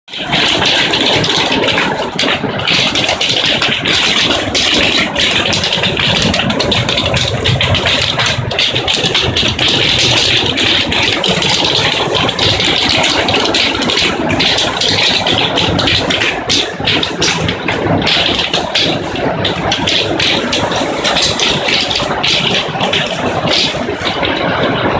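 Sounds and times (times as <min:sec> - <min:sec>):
hailstones pelting down: 0:00.1 - 0:24.9.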